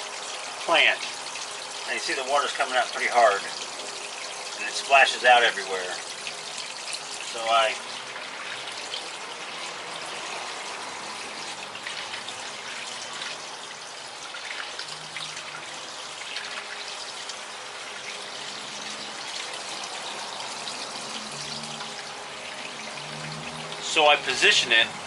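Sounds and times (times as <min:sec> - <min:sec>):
waterfall splashing into pond: 0:00.0 - 0:25.0.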